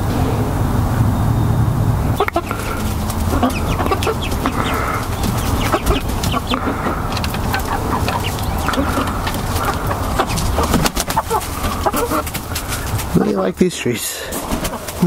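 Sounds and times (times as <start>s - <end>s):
low steady rumble: 0.0s - 13.6s
hens clucking: 2.1s - 15.0s.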